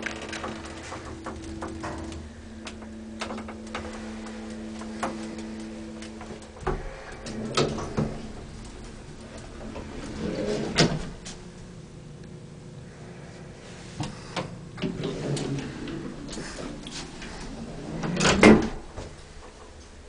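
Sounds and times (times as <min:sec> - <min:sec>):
elevator clunks: 0:00.0 - 0:12.1, 0:14.0 - 0:20.0
elevator car humming: 0:00.0 - 0:20.0.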